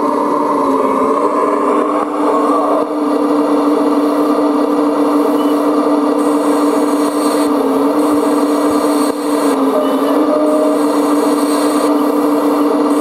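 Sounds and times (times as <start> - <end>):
model excavator motor hum: 0.0 - 13.0.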